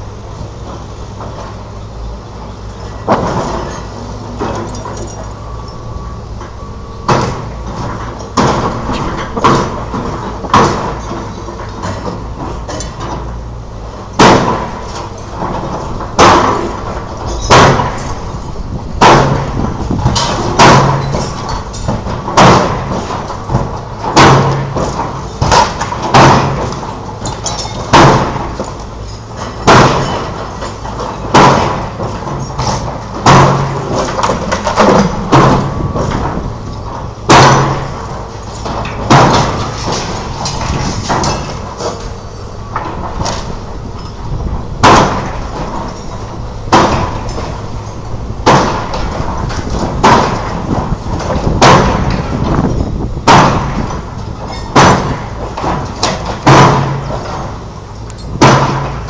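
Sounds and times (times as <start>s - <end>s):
demolition machine engine rumble: 0.0s - 59.0s
heavy impacts and crashes: 3.0s - 57.7s, 58.3s - 59.0s.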